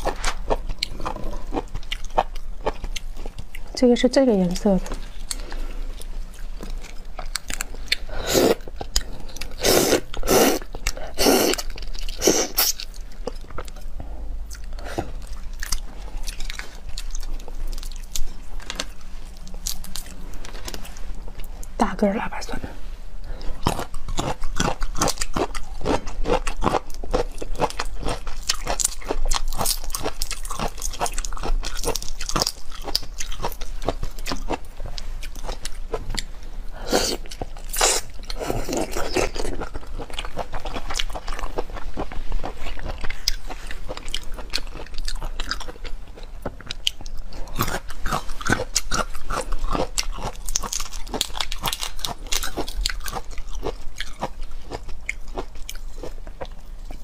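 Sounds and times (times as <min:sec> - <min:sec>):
crunching and wet chewing: 0:00.0 - 0:03.8, 0:04.6 - 0:21.7, 0:23.2 - 0:57.0.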